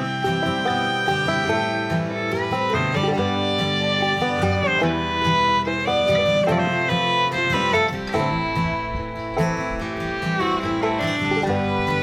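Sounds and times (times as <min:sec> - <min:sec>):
fiddle melody: 0:00.0 - 0:12.0
guitar accompaniment: 0:00.0 - 0:12.0.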